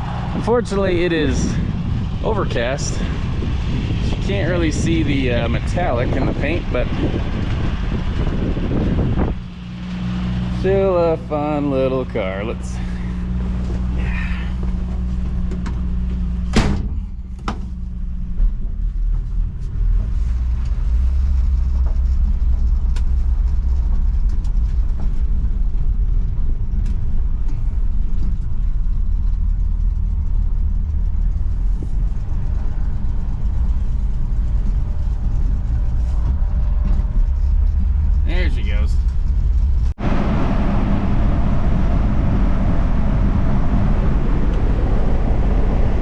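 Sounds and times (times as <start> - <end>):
car driving off: 0.0 - 46.0
car engine idling: 7.5 - 45.4.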